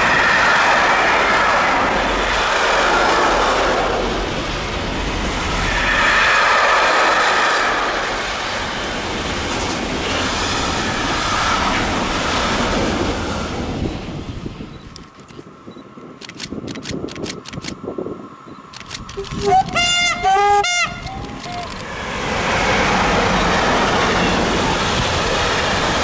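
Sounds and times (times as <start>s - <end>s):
freight train wheels on rails: 0.0s - 26.0s.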